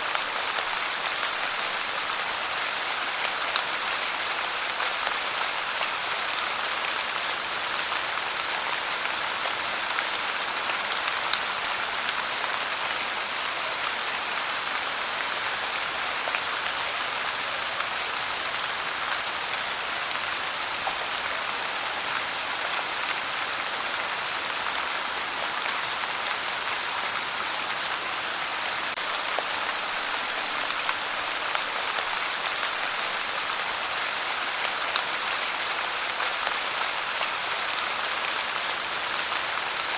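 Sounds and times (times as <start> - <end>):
steady pouring rain: 0.0 - 39.9.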